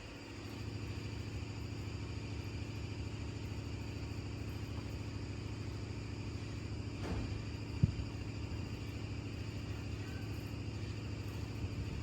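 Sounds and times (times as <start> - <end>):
engine running with pulsing hum: 0.0 - 12.0.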